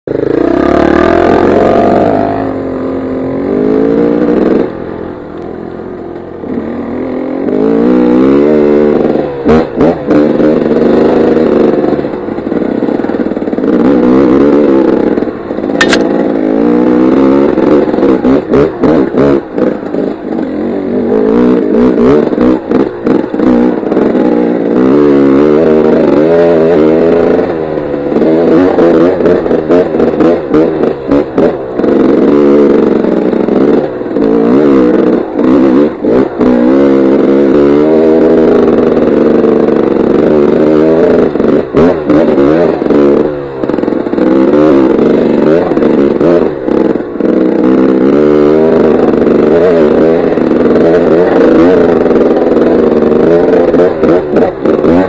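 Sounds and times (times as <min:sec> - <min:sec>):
dirt bike engine revving: 0:00.1 - 0:55.0.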